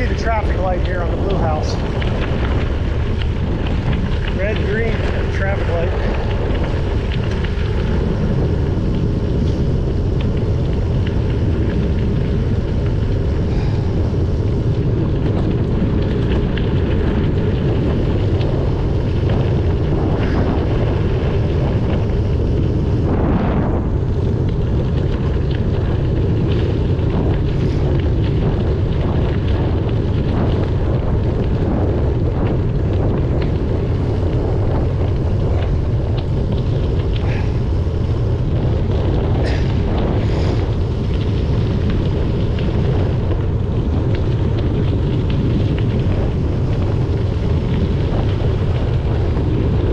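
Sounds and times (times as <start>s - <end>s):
bicycle tyre and road noise: 0.0s - 49.9s
wind buffeting microphone: 0.0s - 49.9s.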